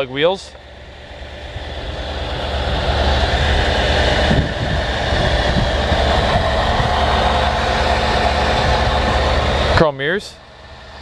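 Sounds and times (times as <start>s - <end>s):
engine idling deep rumble: 0.0s - 11.0s.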